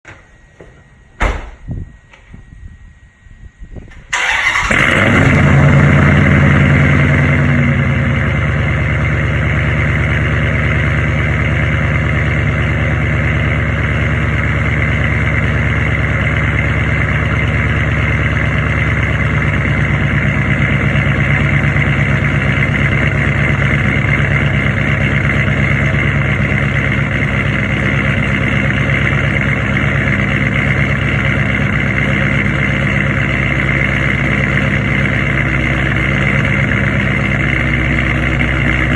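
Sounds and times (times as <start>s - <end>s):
car engine cold start idling: 3.9s - 38.9s.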